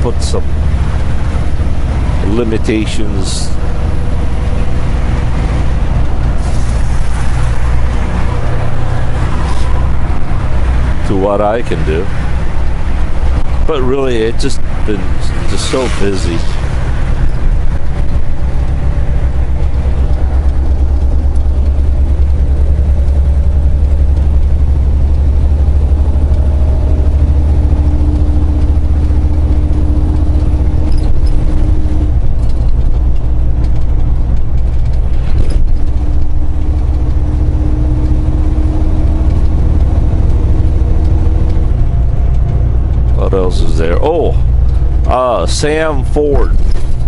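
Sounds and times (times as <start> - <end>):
truck diesel engine rumble: 0.0 - 47.0.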